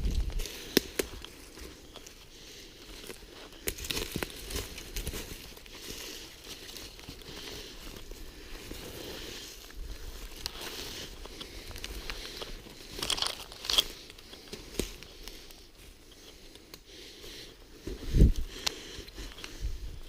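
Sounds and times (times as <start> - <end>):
sharp crackles: 0.0 - 17.4
crinkling rustling handling noise: 0.0 - 20.0.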